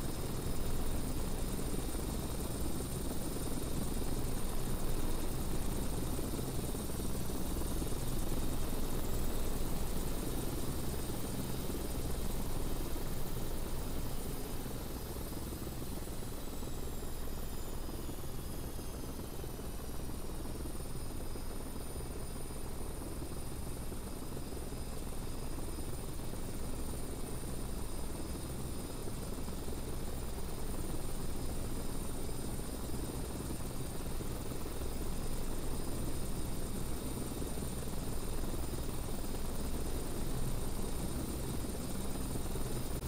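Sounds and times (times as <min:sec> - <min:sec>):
helicopter rotor drone: 0:00.0 - 0:43.0.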